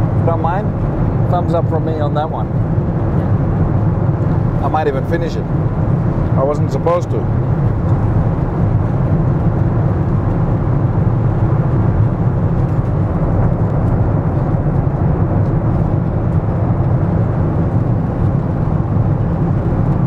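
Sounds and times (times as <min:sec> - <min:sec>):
airliner cabin noise: 0:00.0 - 0:20.0.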